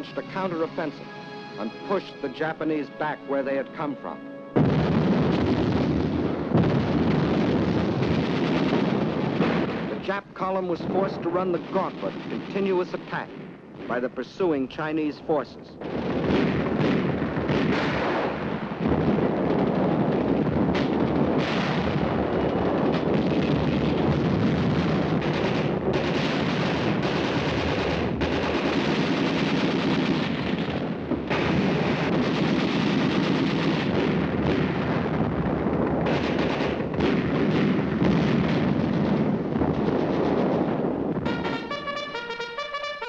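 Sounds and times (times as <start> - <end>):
gunfire and shellfire: 4.6 - 14.6, 15.8 - 42.4.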